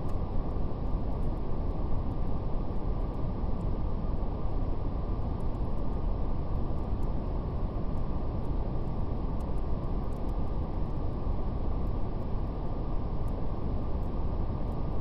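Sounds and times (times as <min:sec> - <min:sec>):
faint fire crackles: 0:00.0 - 0:15.0.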